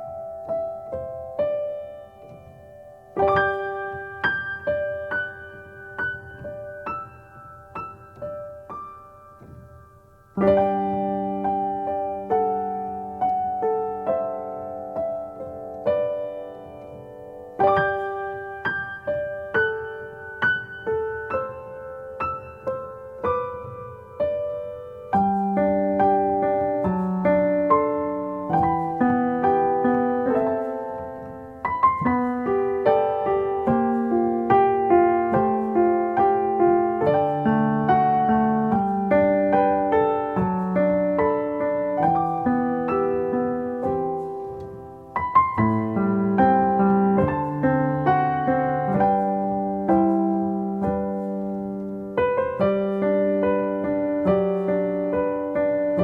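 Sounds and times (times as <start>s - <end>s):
gentle solo piano melody: 0.0s - 56.0s.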